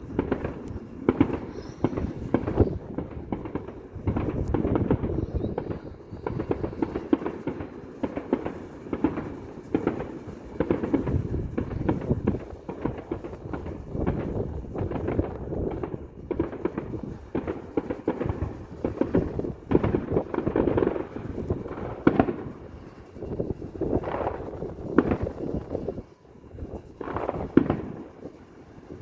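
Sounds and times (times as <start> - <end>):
loud firework bangs: 0.0 - 26.0, 26.6 - 29.0
fireworks booms and crackles: 0.0 - 29.0.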